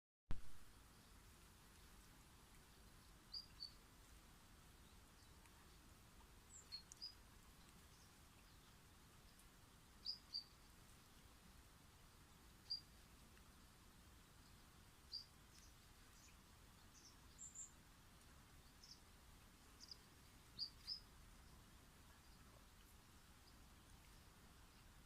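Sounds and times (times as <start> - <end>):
faint outdoor hiss: 0.3 - 25.0.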